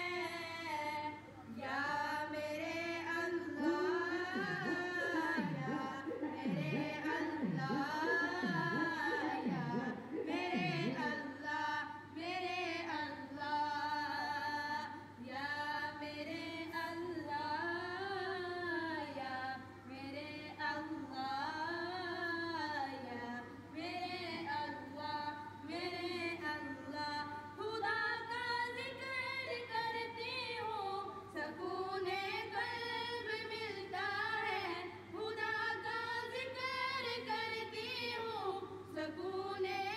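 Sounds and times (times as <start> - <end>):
faint steady hum: 0.0 - 39.9
woman singing unaccompanied: 0.0 - 39.9.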